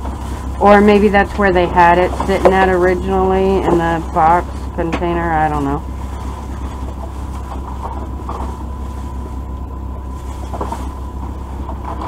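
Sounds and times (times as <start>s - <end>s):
low machine hum: 0.0s - 12.0s
plastic bags rustling: 0.0s - 12.0s.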